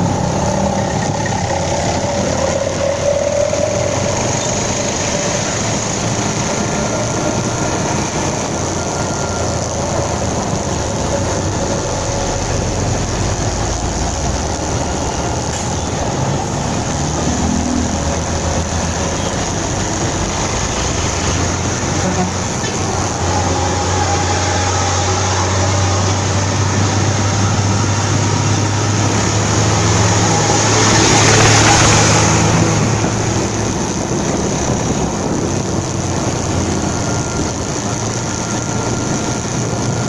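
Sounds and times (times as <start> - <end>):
motorcycle engine running: 0.0 - 40.0
road noise: 0.0 - 40.0.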